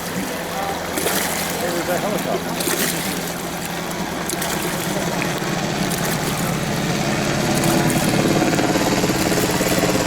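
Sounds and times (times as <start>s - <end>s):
helicopter engine and rotor drone: 0.3s - 10.0s.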